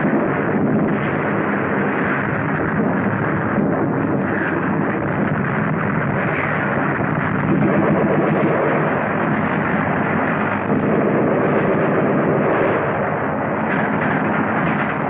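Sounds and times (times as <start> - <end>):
muffled rumble of battle: 0.0 - 15.0.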